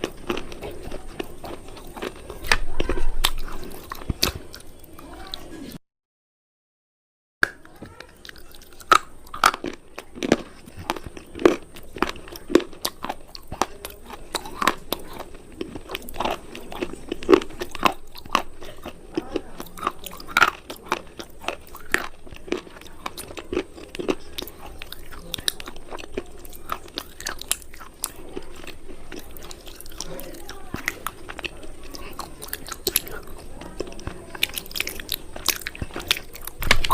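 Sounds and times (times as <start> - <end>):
crunchy food being chewed: 0.0 - 5.8, 7.4 - 36.9.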